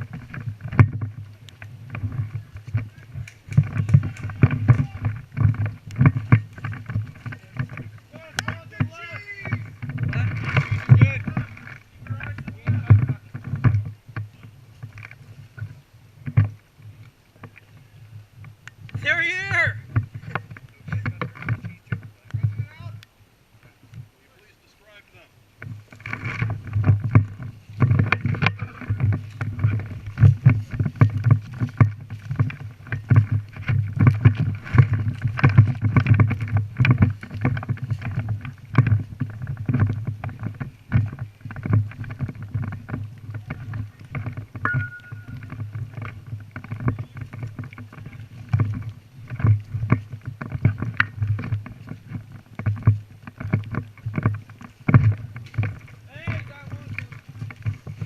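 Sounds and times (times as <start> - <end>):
knocks and rustling on microphone: 0.0 - 17.8, 18.4 - 23.0, 25.6 - 58.0.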